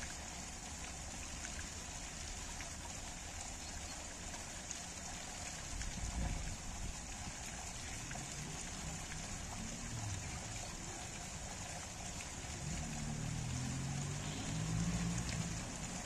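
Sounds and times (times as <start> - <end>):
water splashing onto rocks: 0.0 - 16.0.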